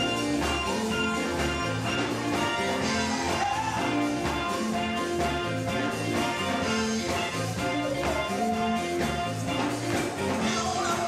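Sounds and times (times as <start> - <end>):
drums keeping a steady beat: 0.0 - 11.0
live gospel band music: 0.0 - 11.0.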